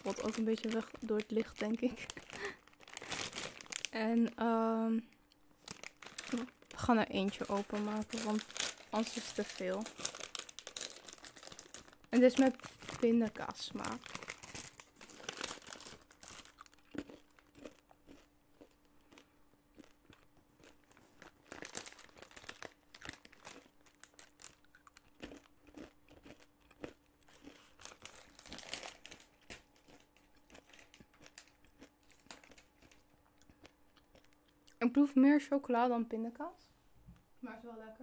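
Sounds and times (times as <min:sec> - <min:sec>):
candy crunching while chewed: 0:00.0 - 0:04.3, 0:05.1 - 0:34.8
plastic snack bag crinkling: 0:00.0 - 0:04.5, 0:05.6 - 0:19.2, 0:19.8 - 0:34.5.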